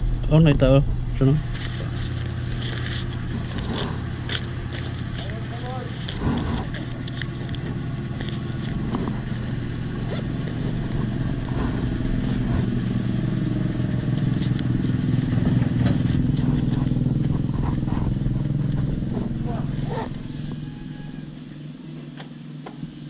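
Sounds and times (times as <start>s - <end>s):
motorcycle engine idling: 1.2s - 23.0s
banknotes and wallet rustling: 1.4s - 21.1s.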